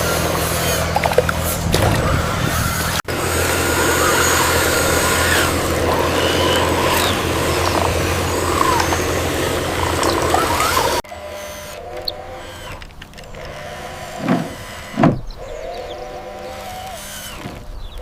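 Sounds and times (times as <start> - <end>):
small motor humming: 0.0 - 18.0.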